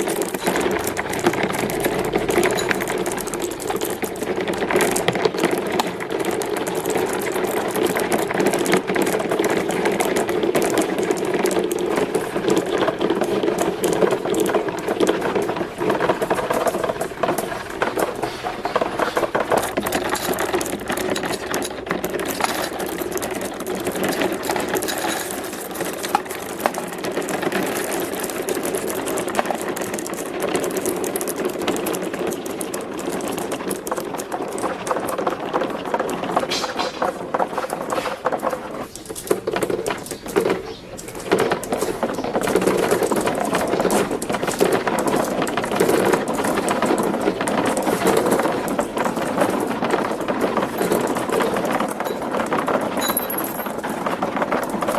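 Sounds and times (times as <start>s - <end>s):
marbles rolling on plastic track: 0.0s - 54.9s.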